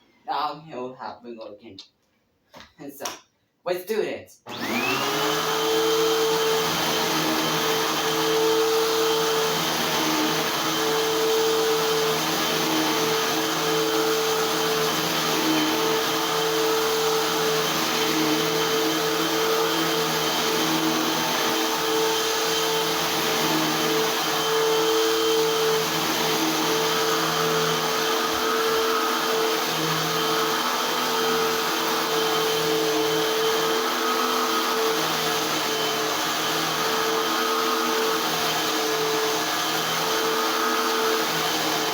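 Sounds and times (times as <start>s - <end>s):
vacuum cleaner motor whine: 4.5s - 41.9s.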